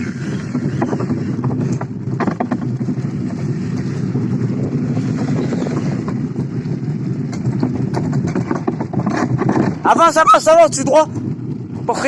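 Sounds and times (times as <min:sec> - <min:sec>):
rattles and clicks: 0:00.0 - 0:12.0
vehicle rumbling: 0:00.0 - 0:12.0.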